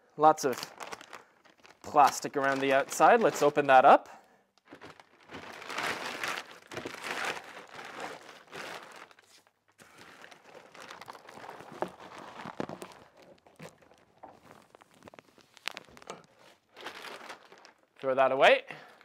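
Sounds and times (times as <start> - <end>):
plastic bag crinkling: 0.3 - 3.9, 4.6 - 18.3.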